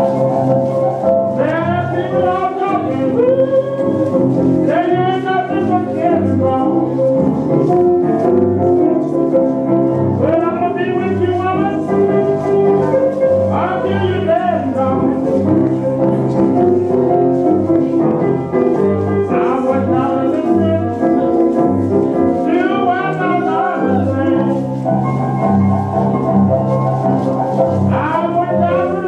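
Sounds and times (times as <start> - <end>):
blues music: 0.0 - 29.0.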